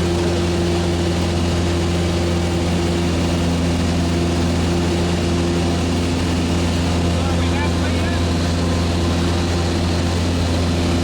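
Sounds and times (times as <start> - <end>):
propeller aircraft engine drone: 0.0 - 11.0.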